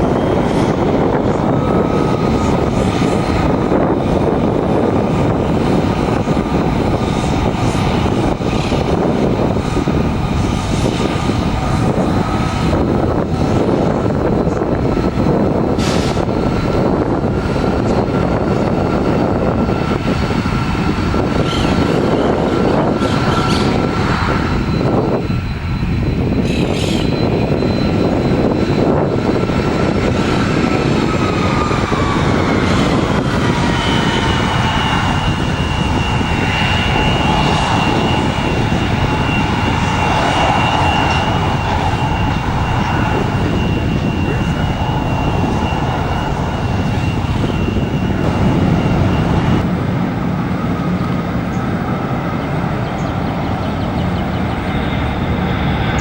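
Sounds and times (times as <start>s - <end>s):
jet engines rushing and whining: 0.0s - 56.0s.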